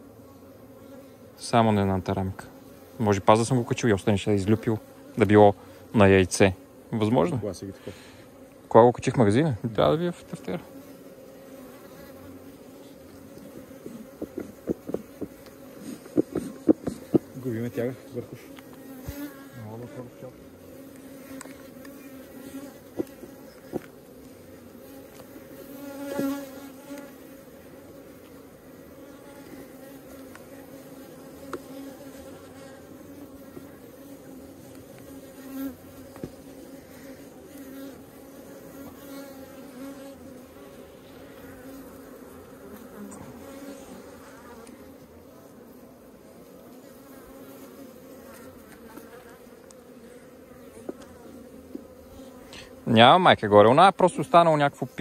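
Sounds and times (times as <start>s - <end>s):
bee buzzing close by: 0.0s - 55.0s
honeybees humming: 0.0s - 55.0s.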